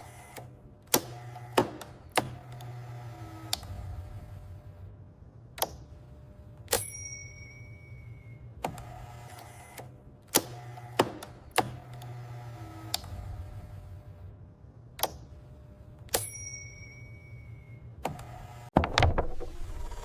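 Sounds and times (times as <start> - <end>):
factory machinery hum: 0.0 - 18.7.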